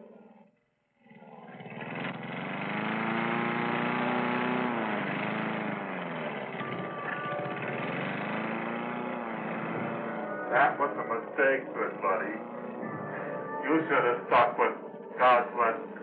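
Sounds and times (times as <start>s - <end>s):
petrol lawnmower engine: 1.1s - 16.0s.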